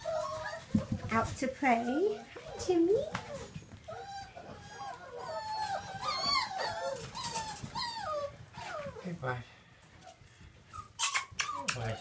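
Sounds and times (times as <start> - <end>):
puppy whining and yipping: 0.0 - 1.1, 1.8 - 9.1, 10.0 - 12.0.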